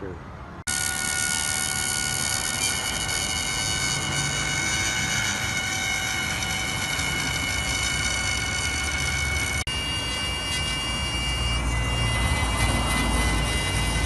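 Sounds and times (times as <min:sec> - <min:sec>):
router spindle whine: 0:00.6 - 0:14.0
router cutting wood: 0:00.7 - 0:14.0.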